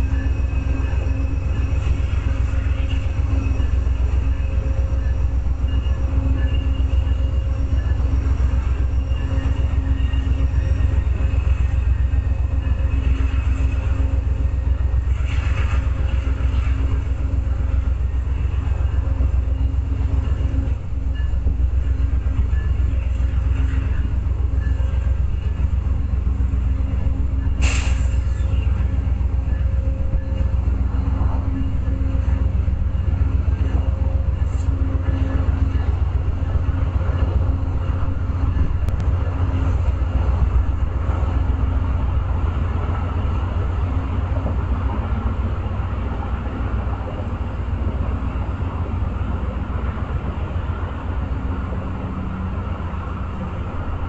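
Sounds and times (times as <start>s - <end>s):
diesel locomotive rumbling: 0.0s - 54.0s.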